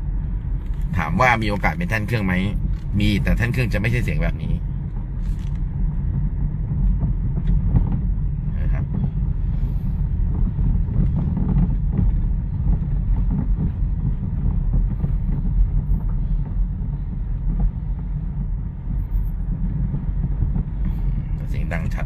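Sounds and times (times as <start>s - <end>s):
road rumble inside car: 0.0s - 22.0s.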